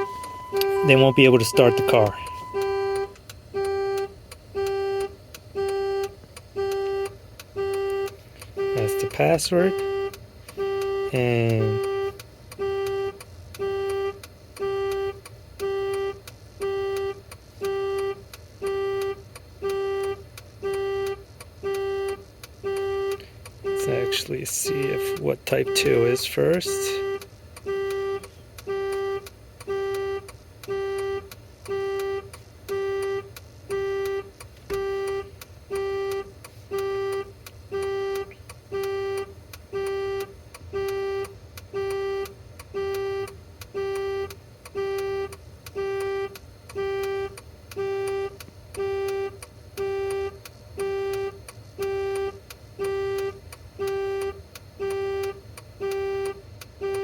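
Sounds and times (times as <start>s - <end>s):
dashboard warning chime: 0.0s - 57.0s
steady low hum: 0.0s - 57.0s.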